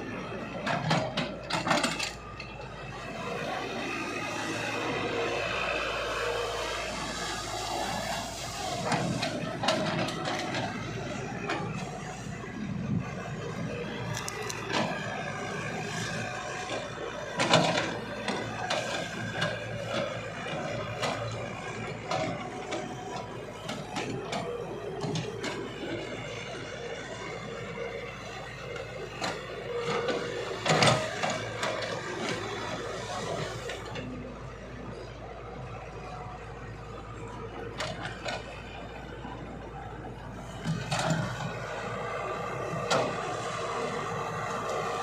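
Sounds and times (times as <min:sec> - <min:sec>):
excavator clanking and grinding: 0:00.1 - 0:45.0.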